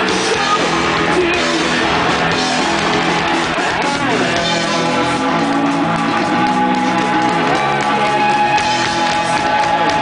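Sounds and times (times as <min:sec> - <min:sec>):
drums: 0:00.0 - 0:10.0
live rock band playing: 0:00.0 - 0:10.0.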